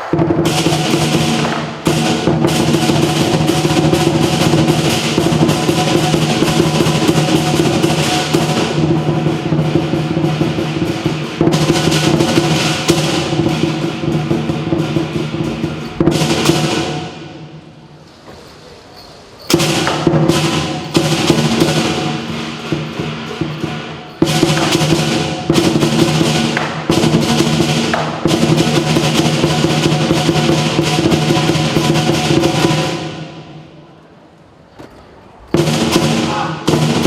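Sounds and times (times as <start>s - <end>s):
big drum rolls: 0.0s - 18.0s, 19.5s - 33.8s, 35.5s - 37.0s
clashing cymbals: 0.0s - 18.0s, 19.0s - 33.6s, 35.5s - 37.0s.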